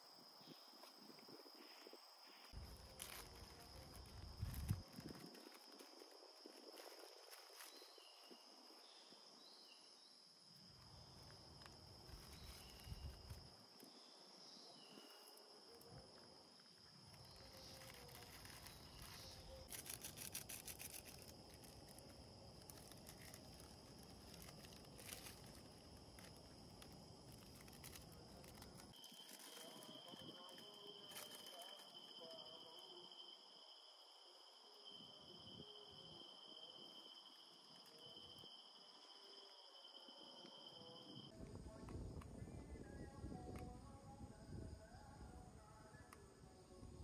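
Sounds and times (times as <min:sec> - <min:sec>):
high-pitched insect drone: 0:00.0 - 0:41.7
insect chirps: 0:00.0 - 0:47.0.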